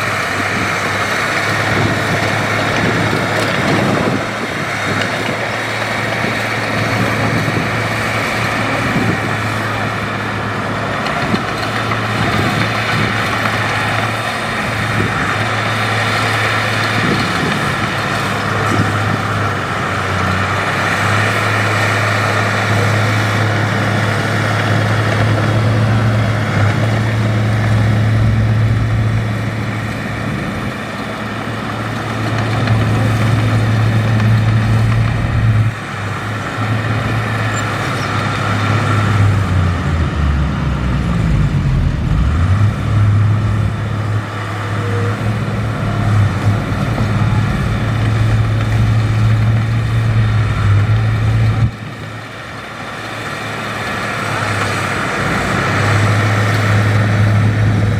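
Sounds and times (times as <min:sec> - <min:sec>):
heavy diesel engine humming: 0:00.0 - 0:57.9.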